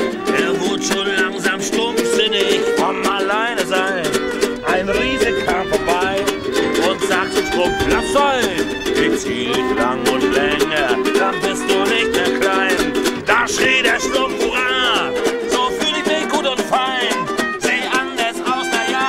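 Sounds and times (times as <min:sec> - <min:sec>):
guitar strumming: 0:00.0 - 0:19.0
man singing: 0:00.0 - 0:19.0
violin melody: 0:00.0 - 0:19.0.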